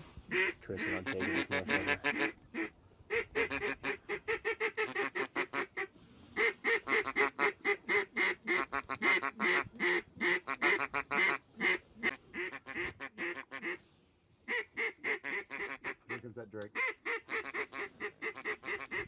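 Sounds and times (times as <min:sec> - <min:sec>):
duck quacking: 0:00.3 - 0:13.8, 0:14.5 - 0:19.0.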